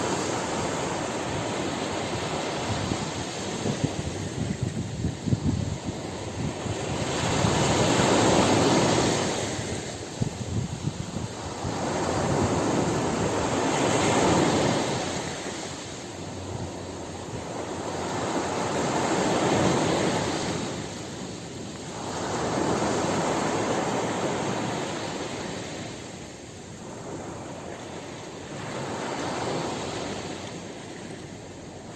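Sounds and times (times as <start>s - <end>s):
ocean waves breaking on beach: 0.0s - 31.9s.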